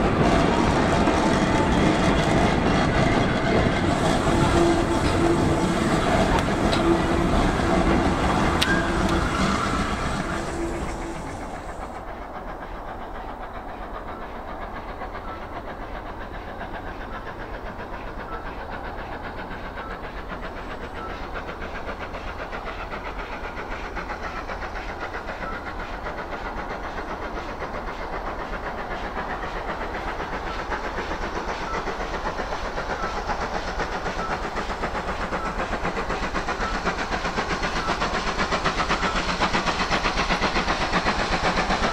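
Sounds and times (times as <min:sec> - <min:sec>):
steam locomotive exhaust beats: 0:00.0 - 0:41.9
train wheels clattering: 0:00.0 - 0:41.9.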